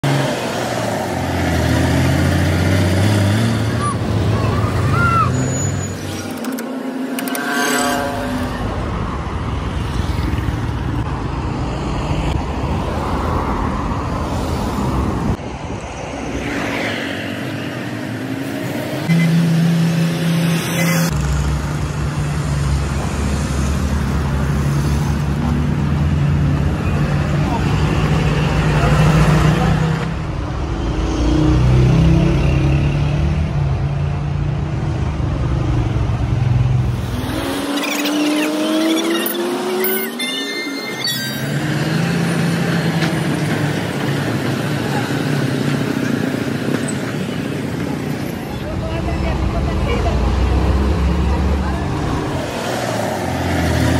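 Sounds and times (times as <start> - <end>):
traffic noise: 0.0 - 53.9.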